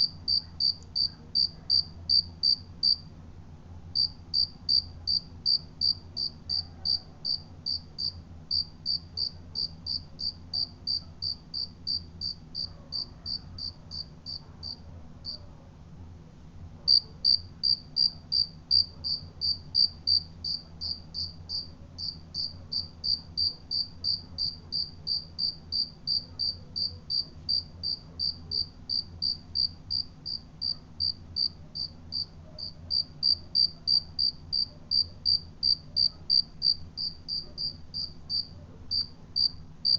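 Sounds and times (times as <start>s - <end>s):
cricket chirping: 0.0s - 3.0s, 4.0s - 15.4s, 16.9s - 39.9s.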